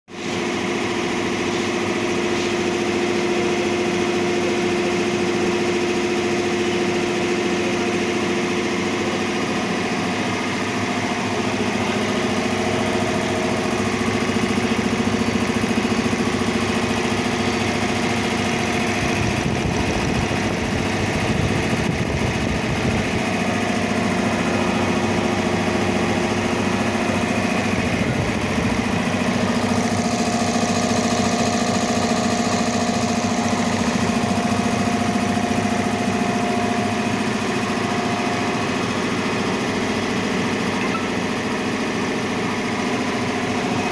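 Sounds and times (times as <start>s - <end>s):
air compressor running: 0.1s - 43.9s.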